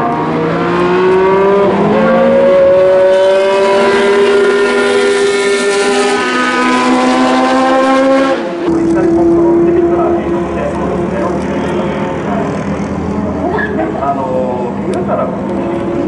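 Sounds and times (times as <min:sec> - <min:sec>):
racing car engine at speed: 0:00.0 - 0:16.0.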